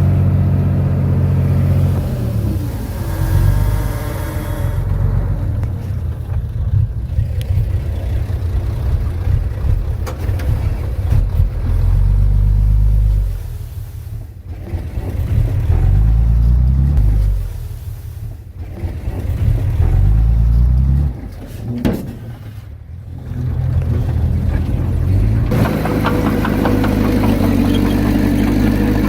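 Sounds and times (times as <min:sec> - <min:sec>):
heavy diesel machinery under load: 0:00.0 - 0:29.0.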